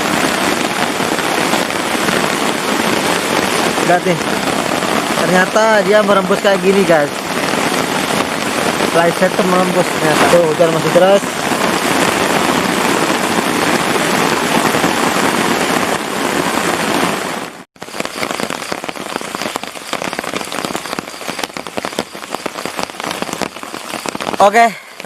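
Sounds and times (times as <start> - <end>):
heavy rain hiss: 0.0 - 25.0.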